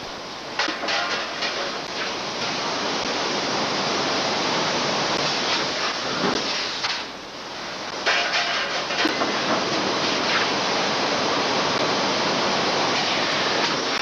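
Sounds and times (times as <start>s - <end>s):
forge furnace and machinery din: 0.0s - 14.0s.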